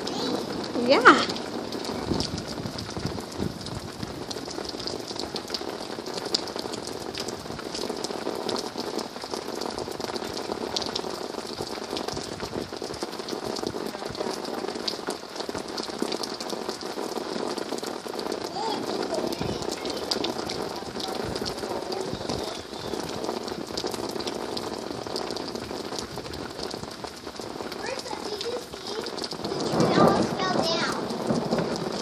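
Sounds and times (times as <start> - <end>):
raindrops ticking nearby: 0.0 - 32.0
steady rain: 0.0 - 32.0.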